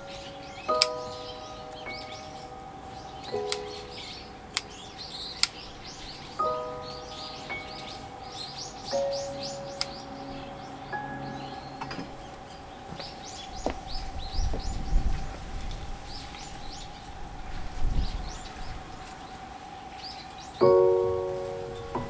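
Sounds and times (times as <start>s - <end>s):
low rumbles: 0.0s - 22.0s
small birds chirping: 0.0s - 22.0s.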